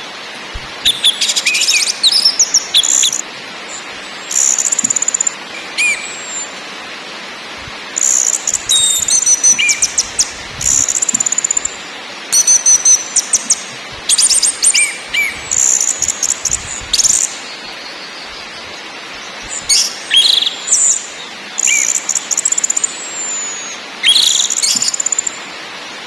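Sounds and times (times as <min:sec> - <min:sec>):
thrush singing trills and whistles: 0:00.0 - 0:06.8, 0:07.6 - 0:25.6
steady background hiss: 0:00.0 - 0:26.0.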